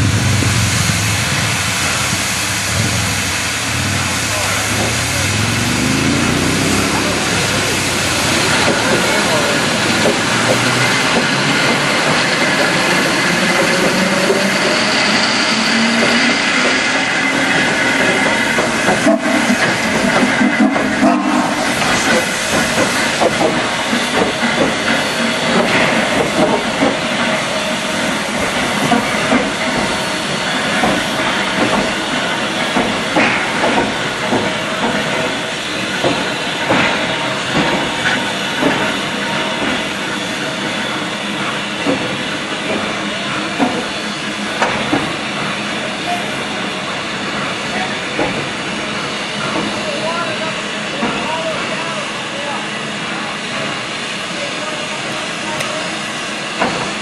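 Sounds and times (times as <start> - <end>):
steam locomotive hissing steam: 0.0 - 57.0.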